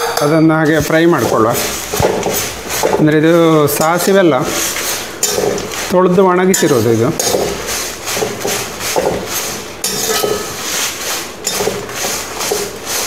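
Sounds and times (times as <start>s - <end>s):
metal spatula scraping steel pan: 0.0s - 13.0s.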